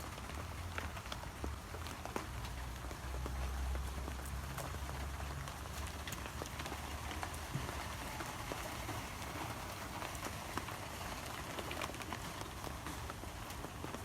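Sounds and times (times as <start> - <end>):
sharp ticks of raindrops: 0.0 - 14.0
steady rain falling: 0.0 - 14.0.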